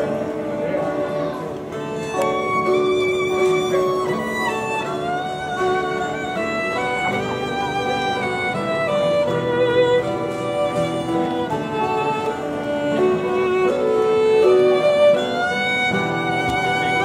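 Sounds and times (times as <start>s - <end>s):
fiddle playing bowed melody: 0.0s - 17.0s.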